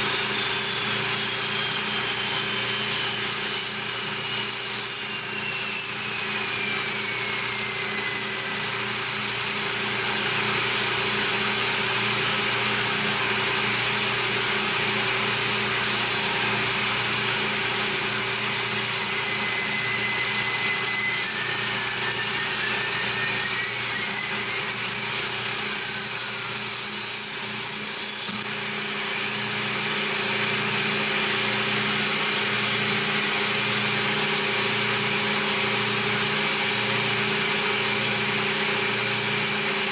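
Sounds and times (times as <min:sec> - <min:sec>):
high motor whine: 0:00.0 - 0:39.9
milling machine cutting hum: 0:00.0 - 0:39.9.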